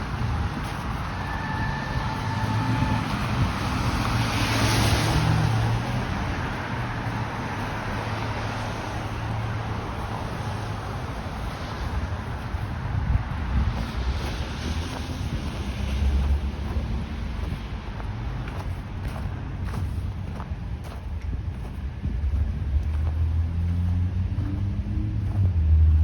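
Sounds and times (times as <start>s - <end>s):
vehicle passing close: 0.0s - 20.4s, 22.2s - 26.0s
road traffic hum: 0.0s - 26.0s.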